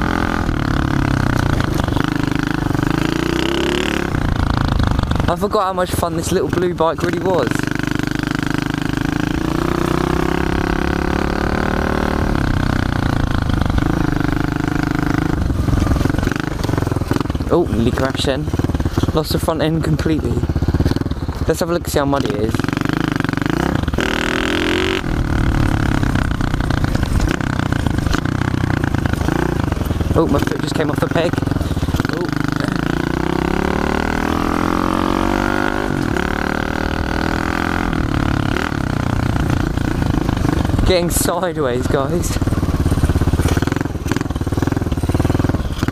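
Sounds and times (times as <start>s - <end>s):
pit bike engine running: 0.0s - 45.9s.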